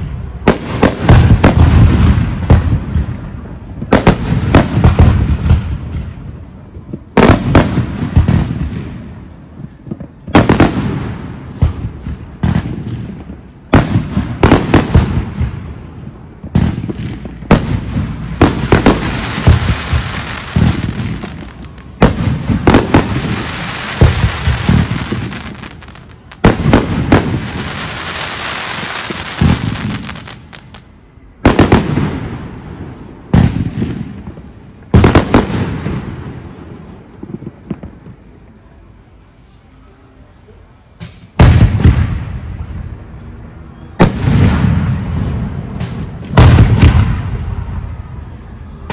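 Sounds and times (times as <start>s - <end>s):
firework crackling: 0.0s - 39.7s.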